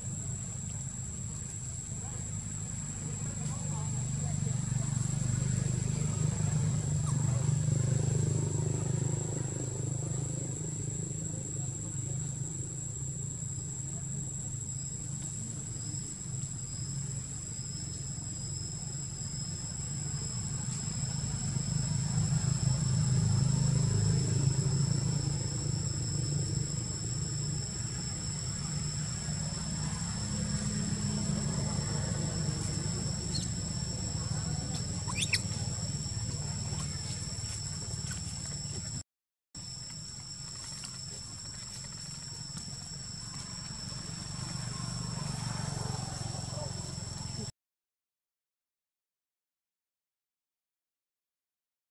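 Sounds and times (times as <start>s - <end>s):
high-pitched insect drones: 0.0s - 39.0s, 39.6s - 47.5s
vehicle engine rumble: 0.0s - 39.0s, 39.8s - 47.5s.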